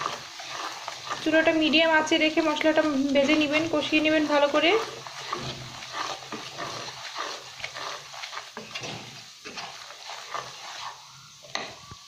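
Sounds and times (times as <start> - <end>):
wooden spoon scraping pan: 0.0 - 11.8
paste sizzling in oil: 0.0 - 12.0.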